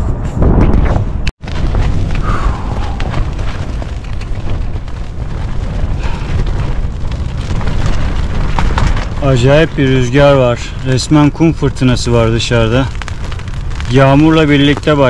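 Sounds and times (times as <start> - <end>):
strong gusting wind: 0.0 - 15.0.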